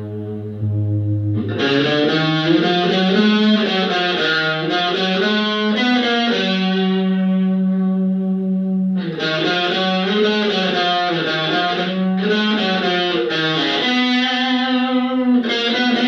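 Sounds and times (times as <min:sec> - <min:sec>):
electric guitar notes: 0:00.0 - 0:16.0.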